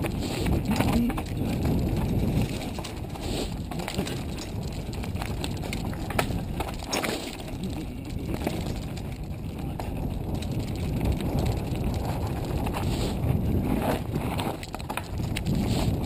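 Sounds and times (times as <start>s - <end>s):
bike clattering over bumps: 0.0s - 16.0s
tyres crunching on stones: 0.0s - 16.0s.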